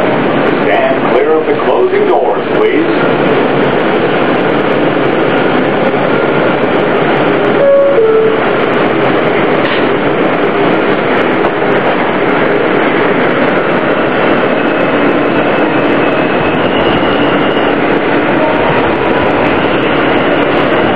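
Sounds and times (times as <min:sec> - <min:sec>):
wheels rushing on rail: 0:00.0 - 0:20.9.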